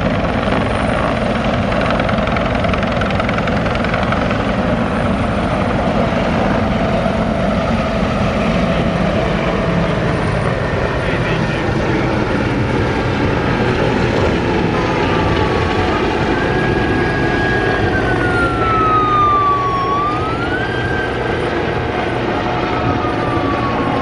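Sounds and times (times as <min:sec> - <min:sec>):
loud mechanical drone: 0:00.0 - 0:24.0.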